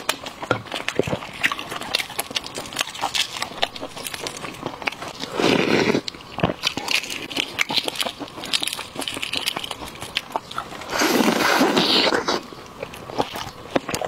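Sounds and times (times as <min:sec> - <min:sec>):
eggshell crackling: 0:00.0 - 0:14.0.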